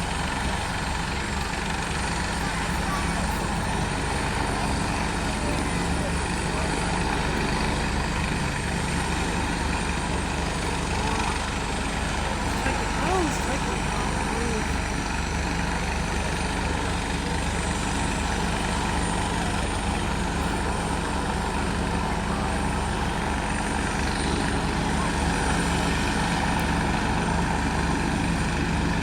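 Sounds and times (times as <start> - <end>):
helicopter rotors turning: 0.0 - 29.0.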